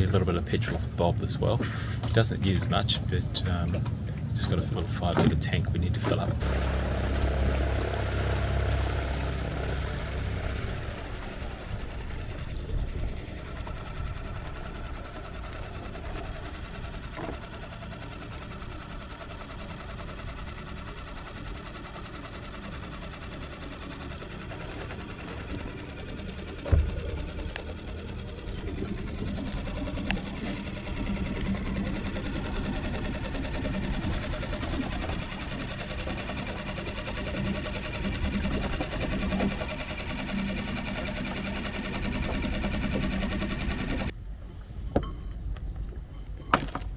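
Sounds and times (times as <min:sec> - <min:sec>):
outboard motor running: 0:00.0 - 0:46.9.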